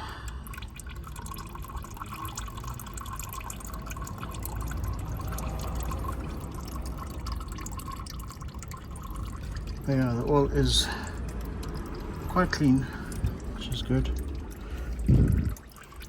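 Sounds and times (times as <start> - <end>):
oil dripping: 0.0 - 16.0
oil pouring stream: 0.0 - 16.0.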